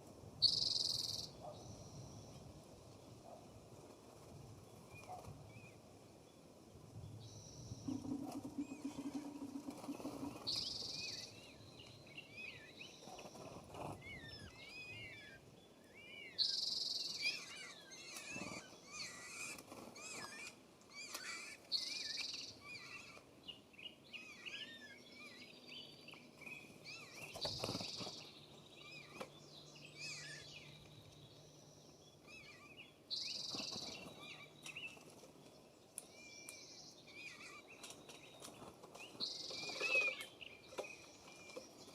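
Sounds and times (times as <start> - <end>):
songbirds chirping and warbling: 0.0 - 41.9.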